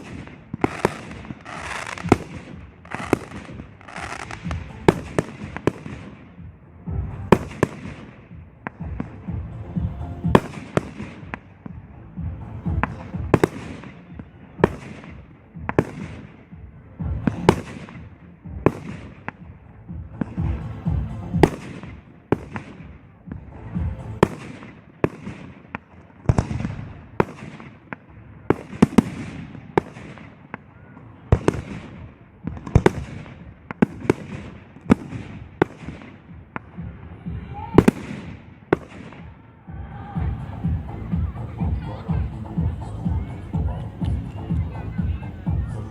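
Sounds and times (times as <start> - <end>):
rolling echo: 0.0 - 45.9.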